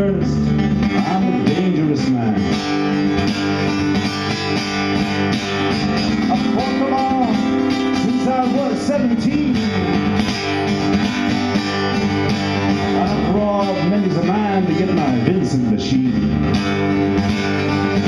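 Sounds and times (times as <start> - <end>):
solo acoustic guitar: 0.0 - 18.0.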